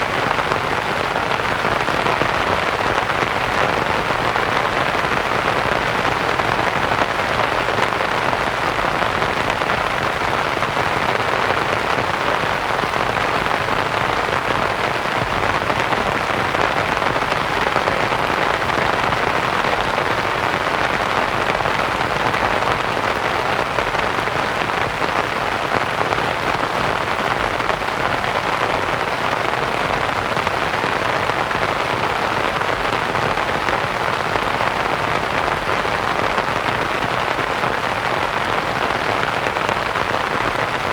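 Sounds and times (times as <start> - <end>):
rain pattering on a tent: 0.0 - 40.9.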